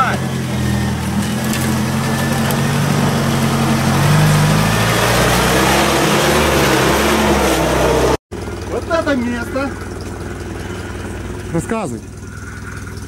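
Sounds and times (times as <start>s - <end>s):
off-road vehicle engine at low revs: 0.0s - 13.0s.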